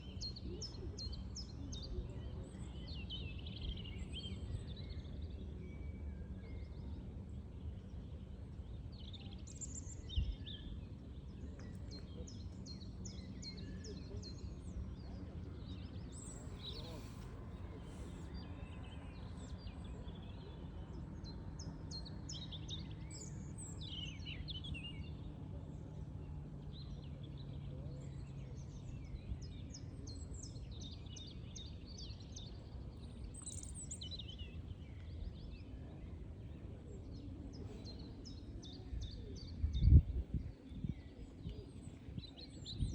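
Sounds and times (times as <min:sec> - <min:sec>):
songbirds chirping and singing: 0:07.9 - 0:42.9.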